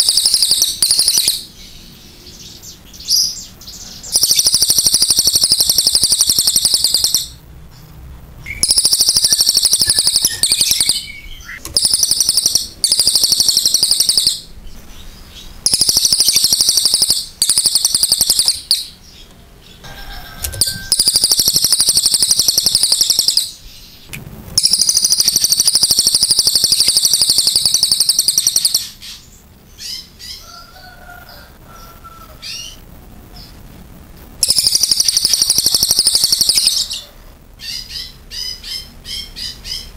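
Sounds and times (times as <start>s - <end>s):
bird singing trilled calls: 0.0s - 7.4s, 8.5s - 19.8s, 20.7s - 30.4s, 34.4s - 37.0s, 37.6s - 39.9s.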